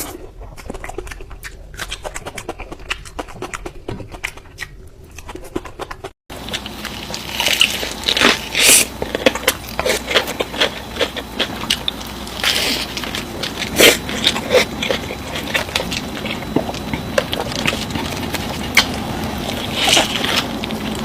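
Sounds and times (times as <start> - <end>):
person chewing crunchy food: 0.0 - 21.0.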